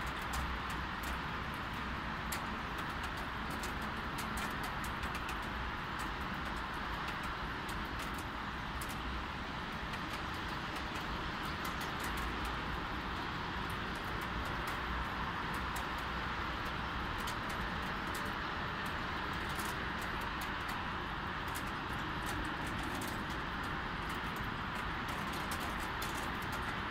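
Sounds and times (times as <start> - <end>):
distant road traffic hum: 0.0 - 26.9
raindrops ticking: 0.0 - 26.9.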